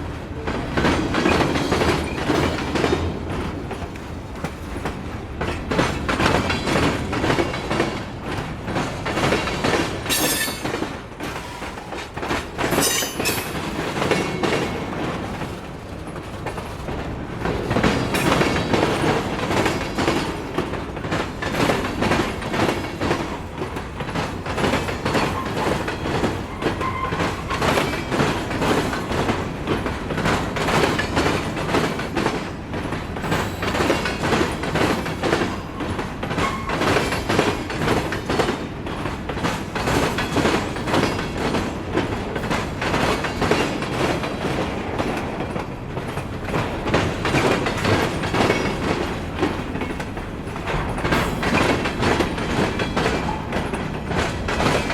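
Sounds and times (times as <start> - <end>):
freight train wheels clacking: 0.0 - 54.9.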